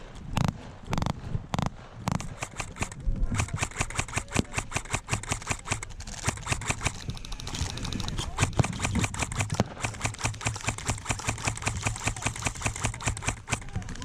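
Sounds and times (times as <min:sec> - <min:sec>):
rapid airsoft gunfire: 0:00.4 - 0:14.0.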